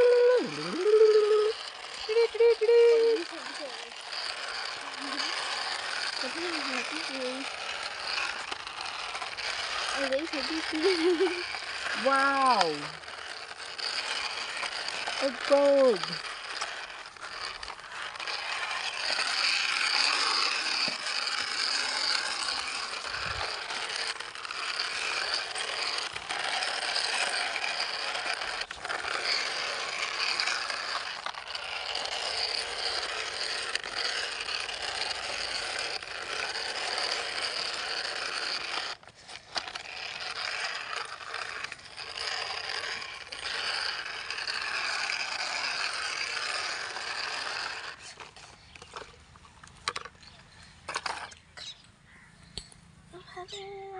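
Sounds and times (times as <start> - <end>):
toy truck wheels rattling on dirt: 0.0 - 53.9.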